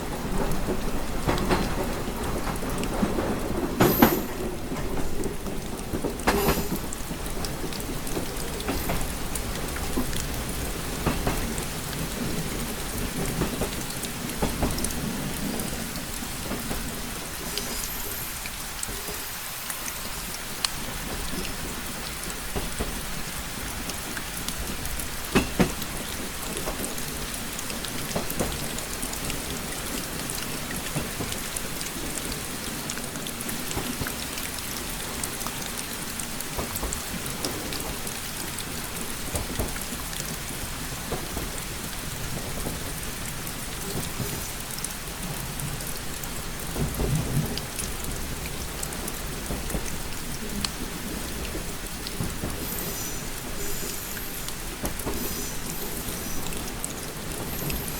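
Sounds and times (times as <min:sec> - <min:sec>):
rain pattering: 0:00.0 - 0:57.9.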